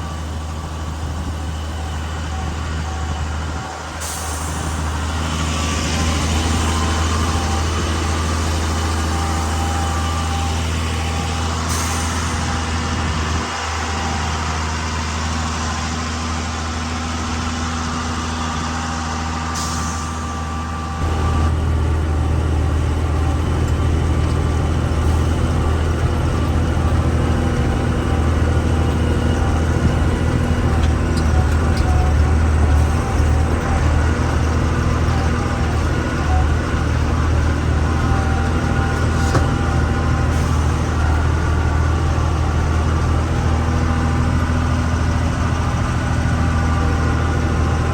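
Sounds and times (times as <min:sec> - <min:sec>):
truck diesel engine droning: 0:00.0 - 0:47.9.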